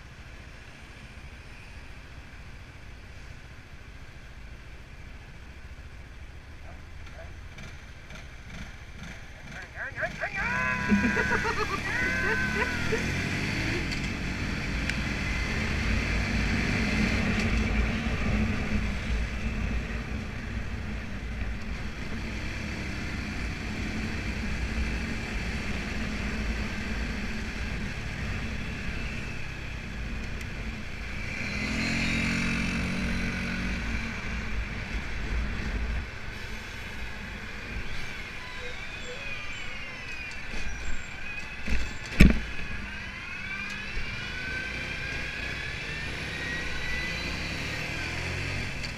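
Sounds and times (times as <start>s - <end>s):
wind and road noise: 0.0s - 48.9s.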